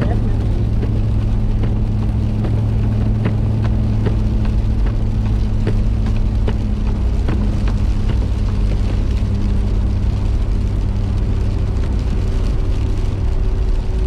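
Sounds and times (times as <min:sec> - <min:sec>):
car cabin hum and rumble: 0:00.0 - 0:14.0.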